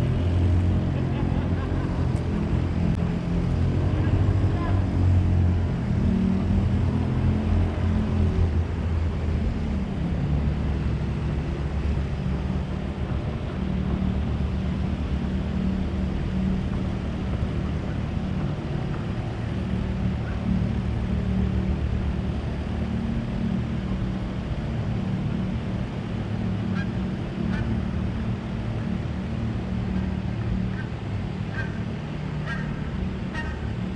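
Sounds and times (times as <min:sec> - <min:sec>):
low engine hum: 0:00.0 - 0:33.9.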